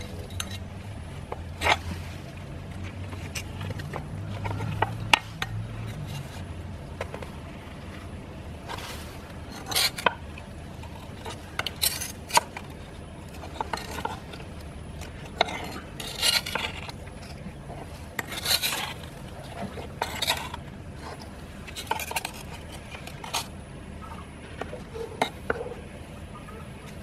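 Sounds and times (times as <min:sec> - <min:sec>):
hand scraping soil in clay pot: 0:00.0 - 0:23.6.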